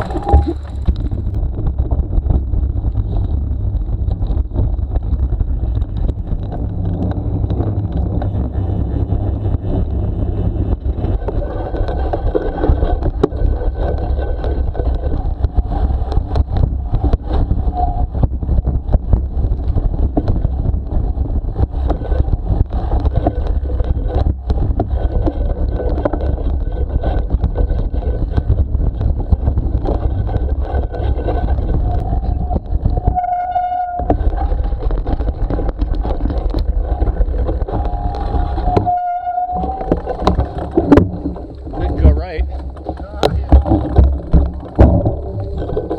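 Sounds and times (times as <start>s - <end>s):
bicycle tyre rumble: 0.0s - 45.9s
bike knocks and rattles: 0.0s - 45.9s
wind on microphone: 0.0s - 45.9s.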